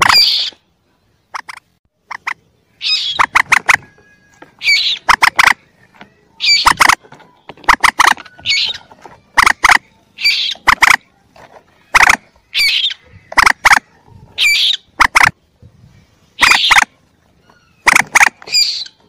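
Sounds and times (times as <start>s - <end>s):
recorded moorhen calls: 0.0s - 19.0s.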